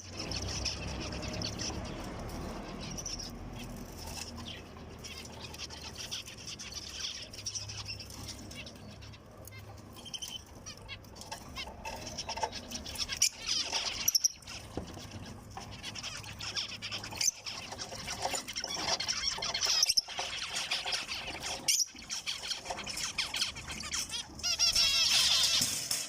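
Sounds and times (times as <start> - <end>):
finches calling and chirping: 0.0 - 26.0.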